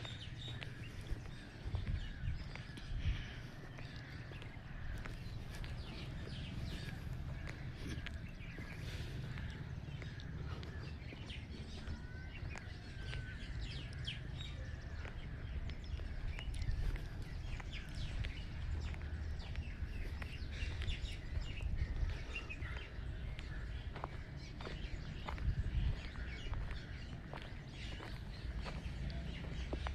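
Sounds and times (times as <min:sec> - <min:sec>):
birds chirping: 0:00.0 - 0:29.9
steady low rumble: 0:00.0 - 0:29.9.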